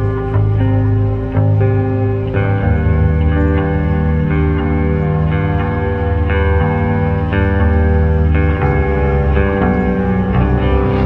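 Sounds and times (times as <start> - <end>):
music with sustained notes: 0.0 - 11.0.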